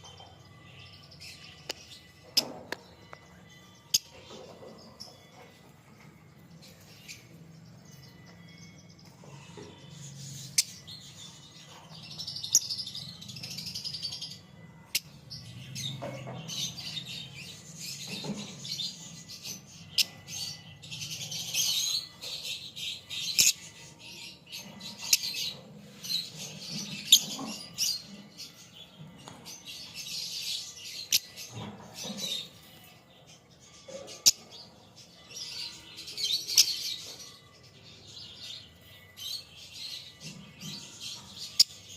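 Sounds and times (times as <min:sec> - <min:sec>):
lovebirds chirping: 0:00.0 - 0:41.9.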